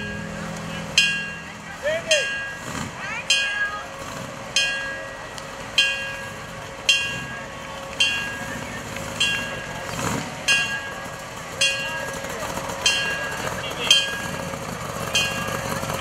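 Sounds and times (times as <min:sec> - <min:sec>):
fire engine bell clanging: 0:00.0 - 0:16.0
low vehicle rumble: 0:00.0 - 0:16.0.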